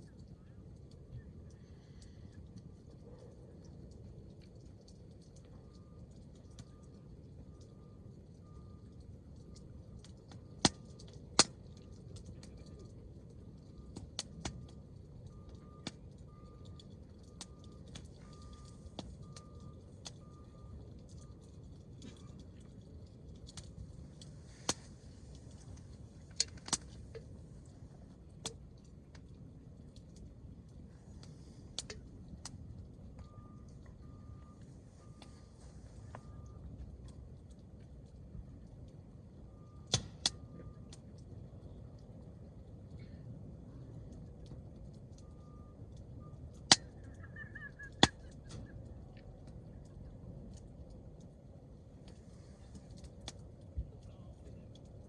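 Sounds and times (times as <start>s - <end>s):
burning wood popping: 0.0s - 55.0s
campfire crackling: 0.0s - 55.0s
low steady rumble: 0.0s - 55.0s.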